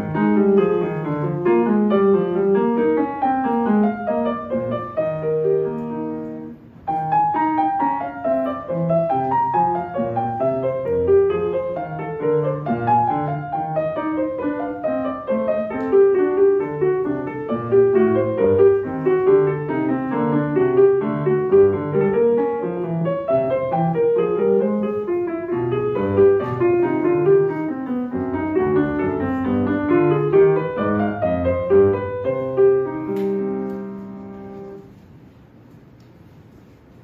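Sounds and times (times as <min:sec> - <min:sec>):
solo grand piano: 0:00.0 - 0:37.0.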